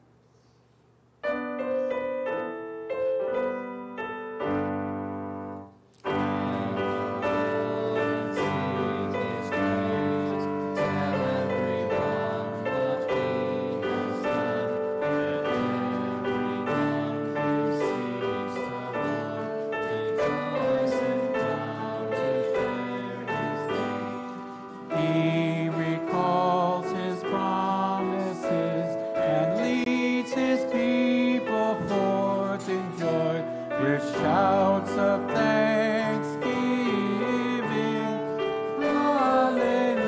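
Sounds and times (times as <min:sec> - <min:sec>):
keyboard music: 0:01.2 - 0:40.0.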